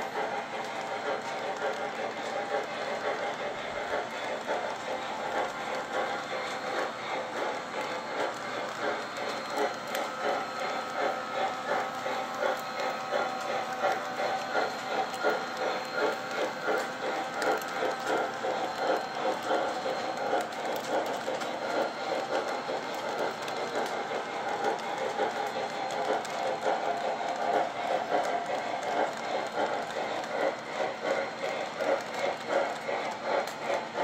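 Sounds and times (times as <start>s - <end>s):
model train wheels clicking: 0.0s - 34.0s.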